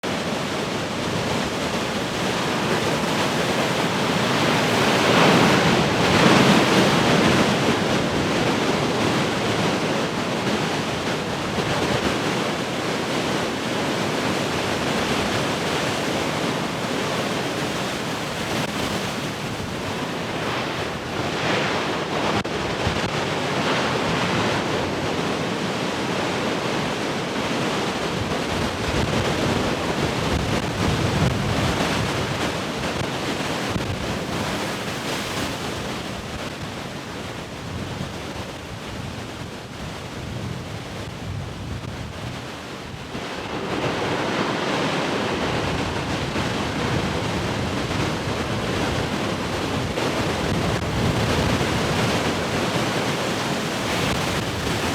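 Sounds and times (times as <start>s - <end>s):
ocean waves breaking: 0.0s - 54.9s
wind buffeting microphone: 0.1s - 54.9s.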